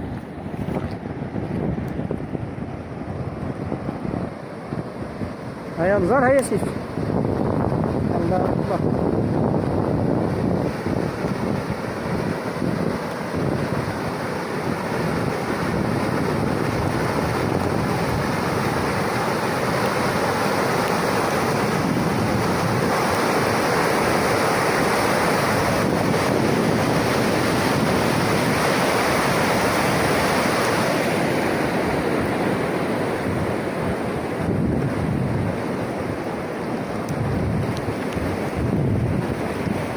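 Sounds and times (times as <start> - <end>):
rushing floodwater: 0.0 - 39.9
wind buffeting microphone: 0.0 - 39.9.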